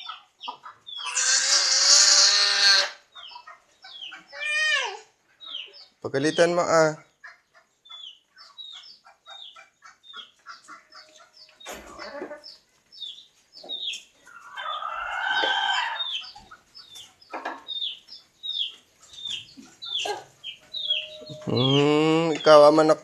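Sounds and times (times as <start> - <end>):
chicken clucking: 0.0 - 23.0
chickens calling: 0.0 - 23.0.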